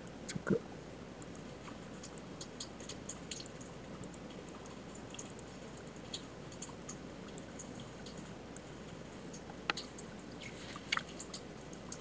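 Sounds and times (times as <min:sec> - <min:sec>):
low background hiss: 0:00.0 - 0:12.0.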